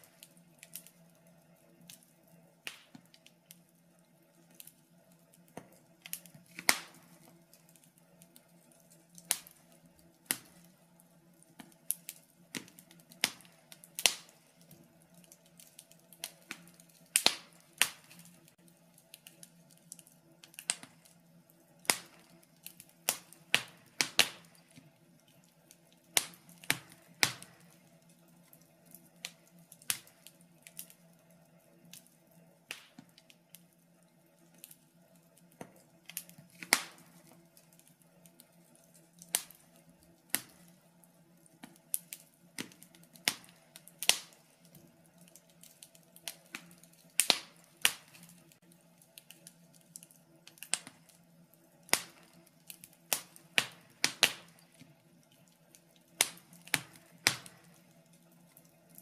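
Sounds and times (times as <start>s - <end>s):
faint steady hum: 0.0s - 59.0s
wood fire crackling: 0.0s - 59.0s.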